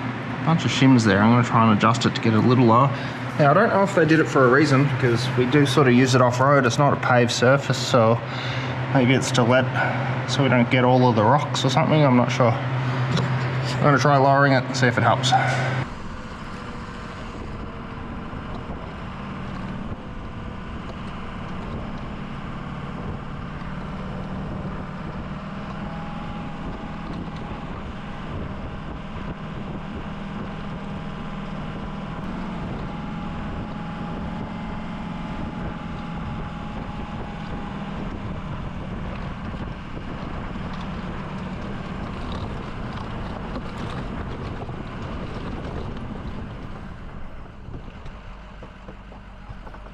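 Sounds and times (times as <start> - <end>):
truck engine droning: 0.0 - 49.9.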